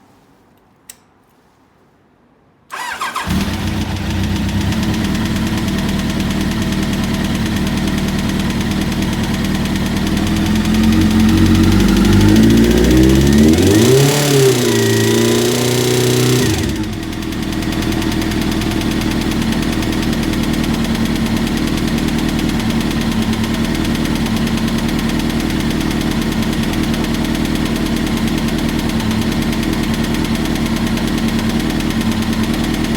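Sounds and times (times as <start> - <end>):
motorcycle engine revving and idling: 2.8 - 32.9.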